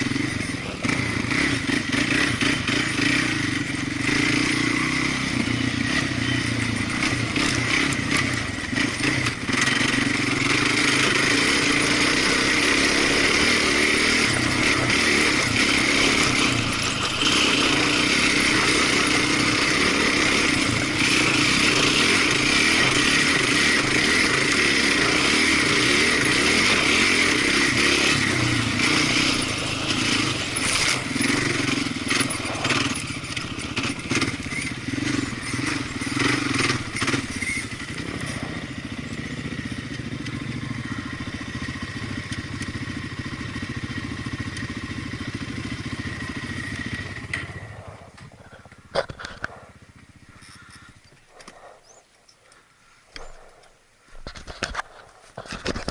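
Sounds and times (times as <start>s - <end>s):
small off-road engine running: 0.0s - 55.9s.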